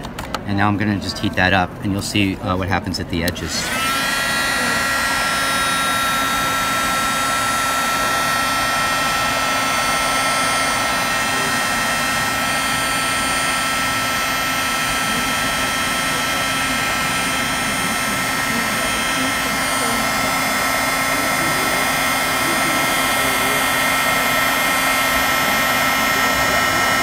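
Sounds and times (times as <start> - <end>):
heat gun blowing with high whine: 3.3 - 27.0.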